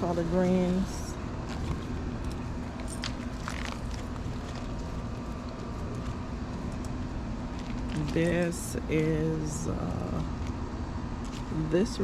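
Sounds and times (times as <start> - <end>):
low hum: 0.0 - 12.0
outdoor background rumble: 0.0 - 12.0.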